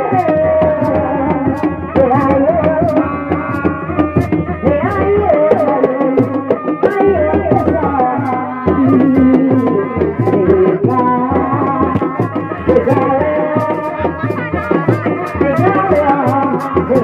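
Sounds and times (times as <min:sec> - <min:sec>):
drum beat: 0:00.0 - 0:17.0.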